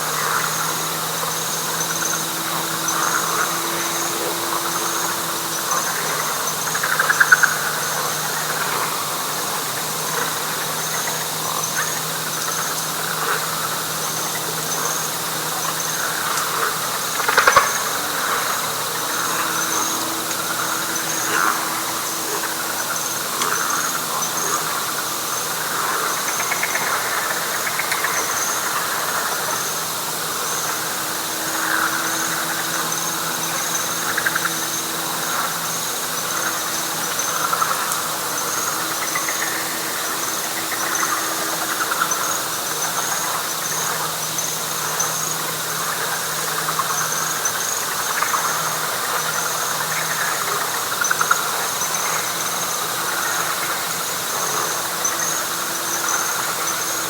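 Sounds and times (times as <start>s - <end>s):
high insect chirps: 0.0s - 57.0s
rattling frog chorus: 0.0s - 57.0s.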